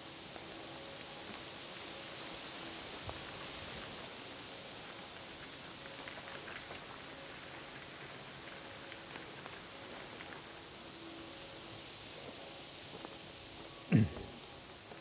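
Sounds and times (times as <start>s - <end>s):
faint steady hiss: 0.0s - 15.0s
small rustles and ticks: 0.0s - 15.0s.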